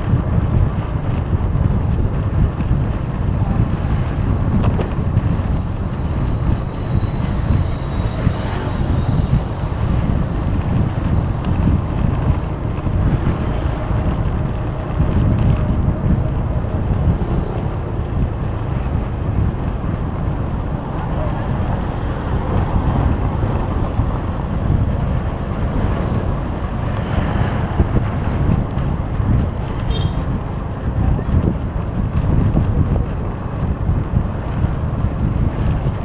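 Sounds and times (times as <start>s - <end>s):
road traffic noise: 0.0s - 36.0s
vehicle engine: 0.0s - 36.0s
wind buffeting microphone: 0.0s - 36.0s.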